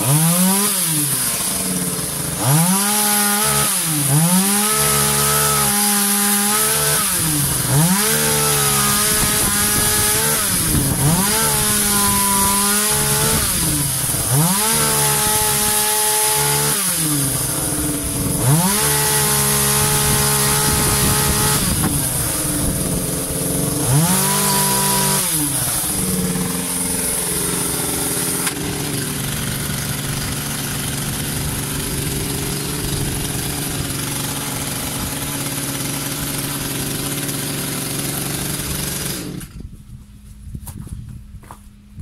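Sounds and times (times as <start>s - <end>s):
chainsaw revving and idling: 0.0s - 39.8s.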